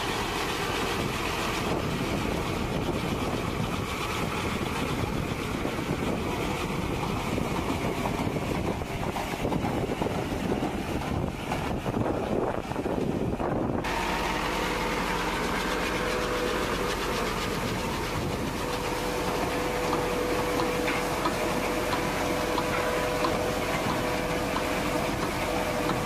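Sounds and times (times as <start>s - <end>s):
crop digger rattling: 0.0s - 26.0s
tractor engine running: 0.0s - 26.0s.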